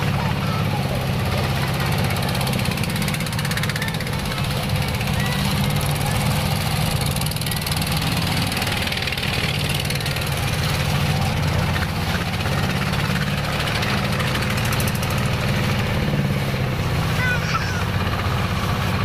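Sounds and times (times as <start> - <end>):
boat engine running: 0.0 - 19.0
water rushing past hull: 0.0 - 19.0.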